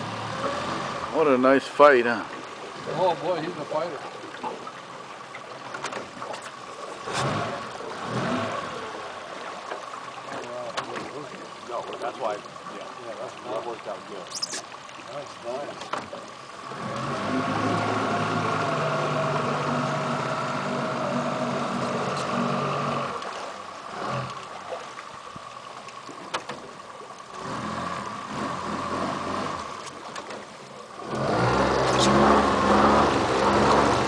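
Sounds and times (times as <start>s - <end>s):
outboard motor humming: 0.0s - 34.0s.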